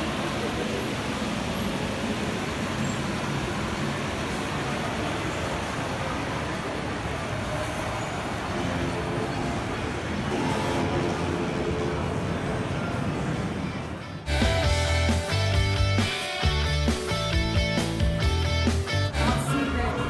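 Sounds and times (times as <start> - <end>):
steady background din: 0.0 - 20.0.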